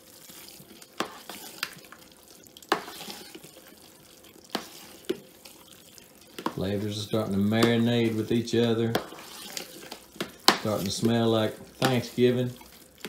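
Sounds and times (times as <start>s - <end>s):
spoon stirring wet mixture: 0.0s - 13.0s.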